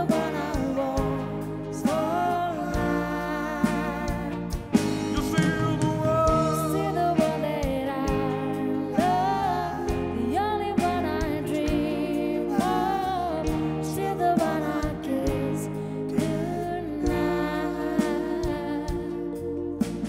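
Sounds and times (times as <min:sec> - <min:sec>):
live band playing: 0:00.0 - 0:20.0
woman singing lead: 0:00.0 - 0:20.0.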